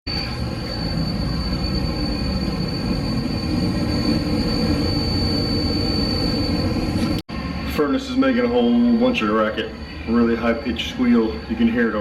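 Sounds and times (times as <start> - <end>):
fan motor squealing: 0.1 - 12.0.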